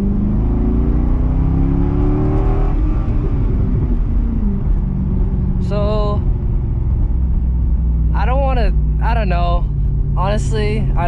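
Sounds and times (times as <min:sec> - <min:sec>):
car engine accelerating from inside: 0:00.0 - 0:11.0.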